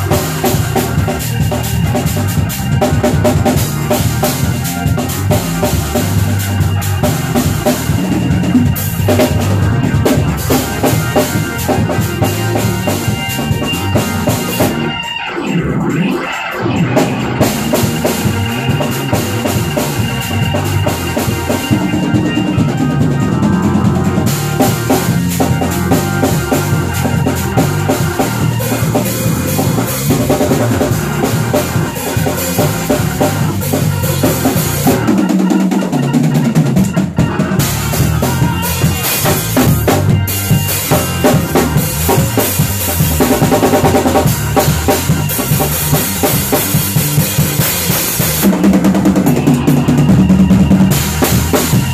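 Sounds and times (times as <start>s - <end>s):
live band playing loudly: 0.0s - 51.9s.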